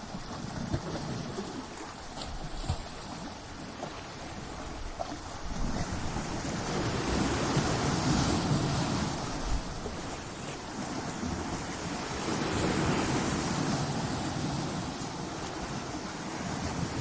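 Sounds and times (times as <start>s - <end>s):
waves breaking on shore: 0.0s - 17.0s.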